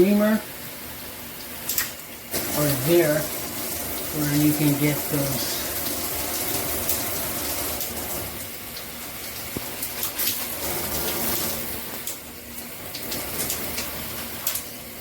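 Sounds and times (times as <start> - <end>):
water spraying from shower head: 0.0 - 15.0.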